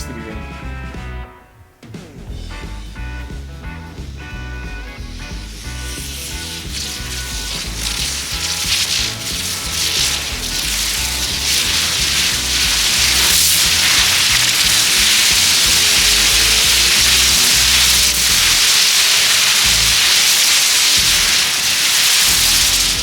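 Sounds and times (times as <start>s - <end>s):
background music: 0.0s - 23.0s
pyrotechnic comets hissing: 3.9s - 23.0s.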